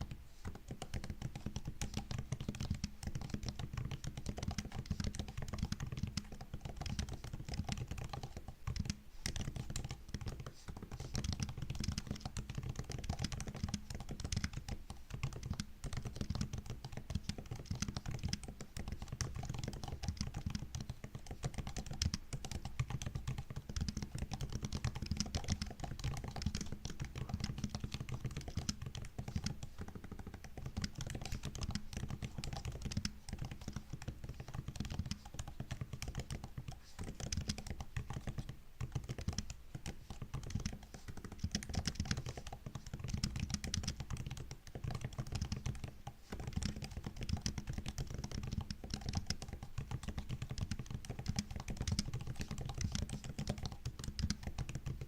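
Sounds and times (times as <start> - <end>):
keyboard typing clicks: 0.0 - 55.0.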